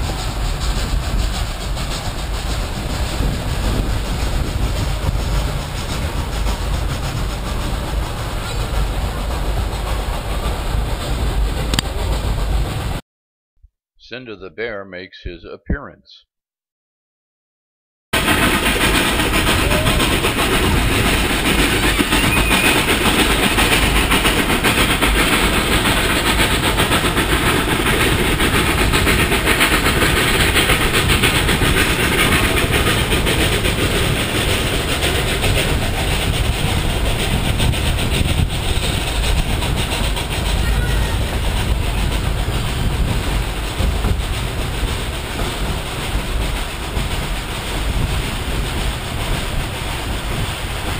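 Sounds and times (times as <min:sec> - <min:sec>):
steam train rumbling on rails: 0:00.0 - 0:13.0, 0:18.2 - 0:50.9.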